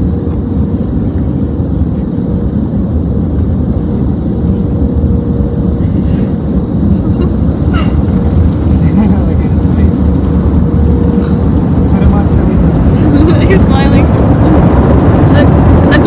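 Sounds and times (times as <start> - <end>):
car wash machinery rumbling: 0.0 - 16.0.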